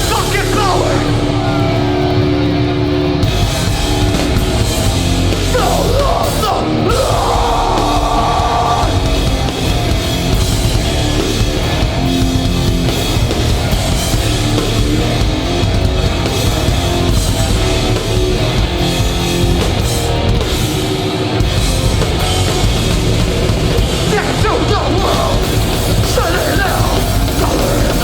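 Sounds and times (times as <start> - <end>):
punk band playing live: 0.0 - 28.0.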